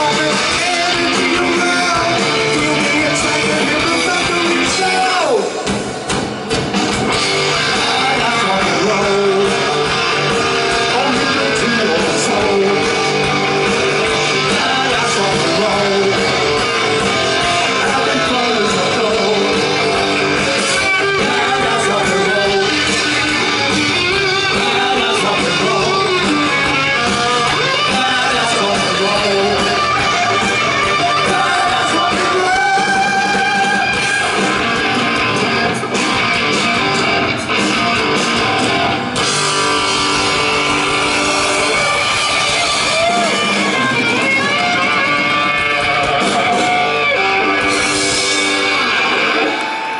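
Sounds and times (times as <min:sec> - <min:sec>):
distorted electric guitar: 0:00.0 - 0:49.9
heavy metal band playing live: 0:00.0 - 0:49.9.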